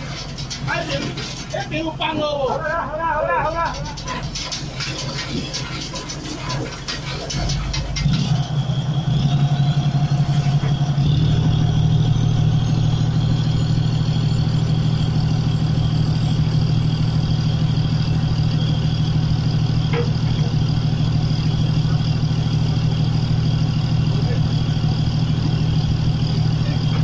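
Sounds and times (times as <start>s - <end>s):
boat engine drone: 0.0s - 27.0s.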